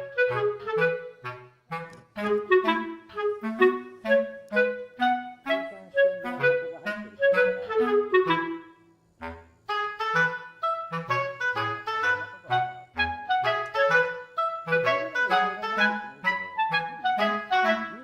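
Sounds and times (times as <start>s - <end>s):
instrumental background music: 0.0s - 18.0s.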